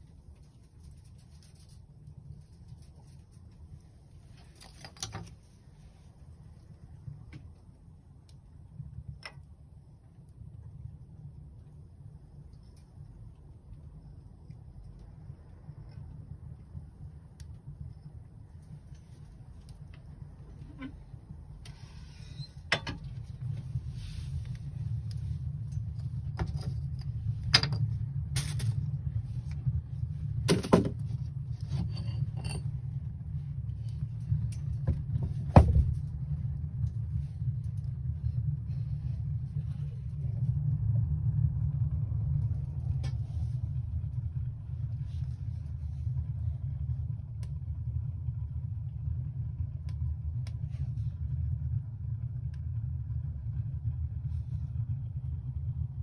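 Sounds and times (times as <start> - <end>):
fire crackling: 0.0 - 56.0
stove draught rumble: 0.0 - 56.0.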